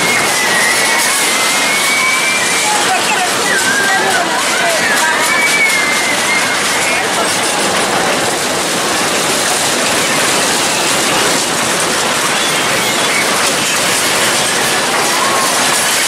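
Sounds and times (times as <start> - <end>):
roller coaster wheels rolling on rails: 0.0 - 16.0.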